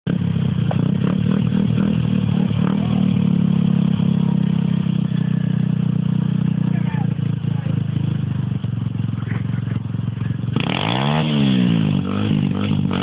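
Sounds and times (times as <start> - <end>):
motorbike engine running: 0.1 - 13.0.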